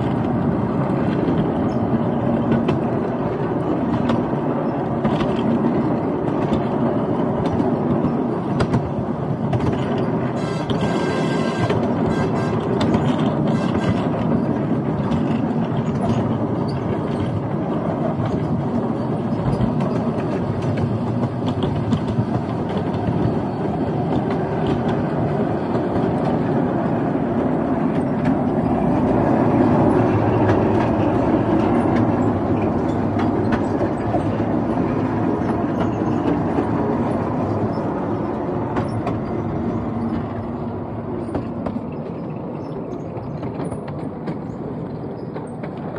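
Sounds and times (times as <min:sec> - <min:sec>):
train wheels rumbling and clicking: 0:00.0 - 0:45.9.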